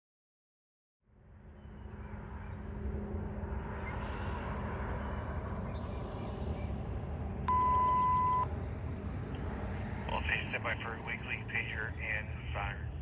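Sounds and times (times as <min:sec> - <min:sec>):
low vehicle rumble: 0:01.4 - 0:13.0.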